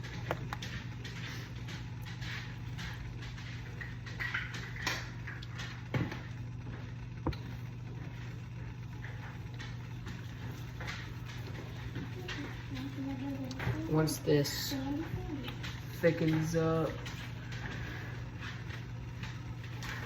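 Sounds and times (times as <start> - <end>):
low kitchen hum: 0.0 - 20.0.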